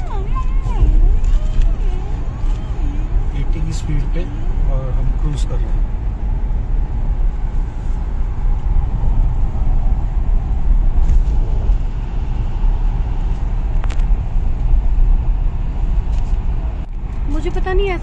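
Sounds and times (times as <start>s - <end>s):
road and wind noise in car cabin: 0.0s - 18.0s.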